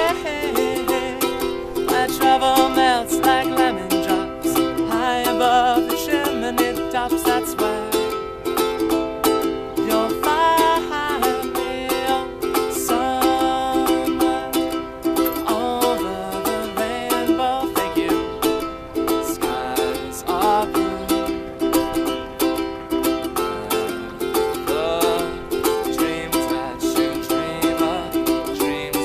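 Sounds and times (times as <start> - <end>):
person singing: 0.0 - 29.0
ukulele strumming: 0.0 - 29.0.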